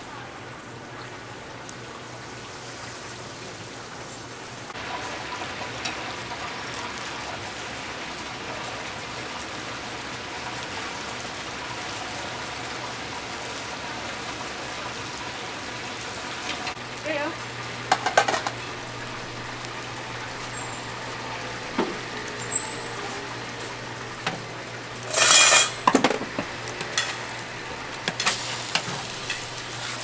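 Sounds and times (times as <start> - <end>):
chicken sizzling in hot oil: 0.3 - 30.0.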